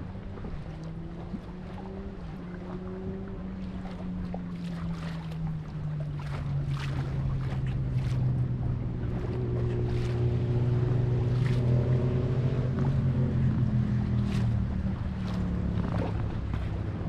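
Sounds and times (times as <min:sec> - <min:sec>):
motorboat engine humming: 0:00.0 - 0:17.0
water splashing against hull: 0:00.0 - 0:17.0.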